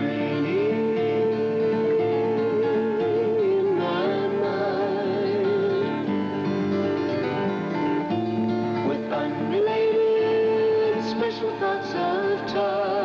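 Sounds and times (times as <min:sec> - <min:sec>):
vocal group singing: 0:00.0 - 0:06.3, 0:08.8 - 0:13.0
acoustic guitar: 0:00.0 - 0:13.0.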